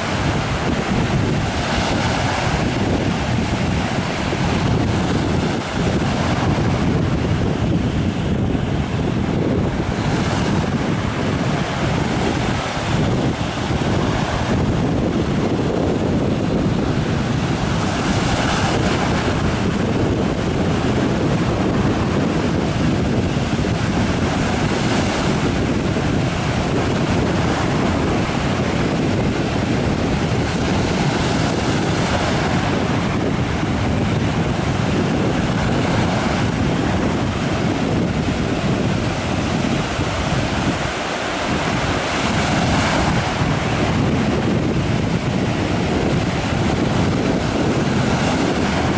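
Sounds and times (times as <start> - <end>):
surf breaking on sand: 0.0 - 48.9
wind rumble on microphone: 0.0 - 48.9.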